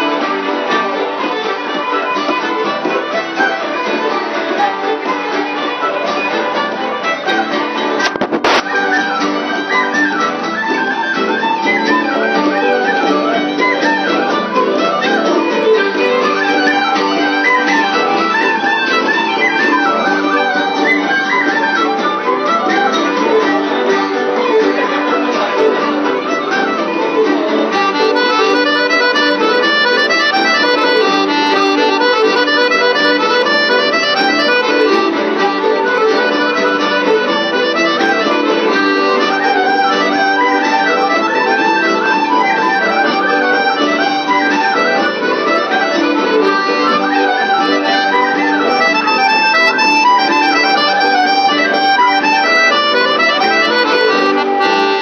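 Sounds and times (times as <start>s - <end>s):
accordion playing a tune: 0.0s - 55.0s
traditional instruments playing: 0.0s - 55.0s.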